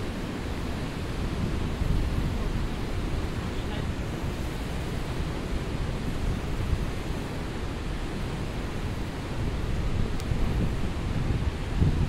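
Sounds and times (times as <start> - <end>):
rushing water: 0.0 - 12.0
wind buffeting microphone: 0.0 - 12.0.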